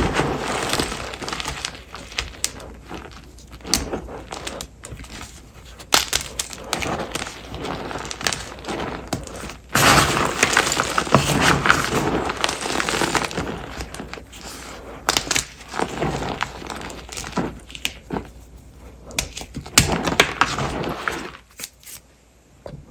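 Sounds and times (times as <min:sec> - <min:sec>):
chalk crunching and crackling: 0:00.0 - 0:22.0.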